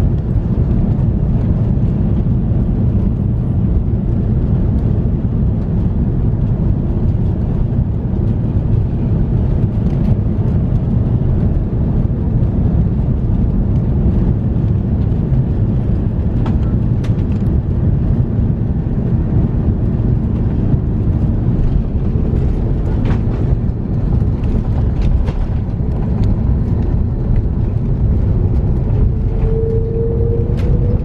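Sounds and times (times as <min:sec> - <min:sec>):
airliner engine and airflow rumble: 0:00.0 - 0:31.0.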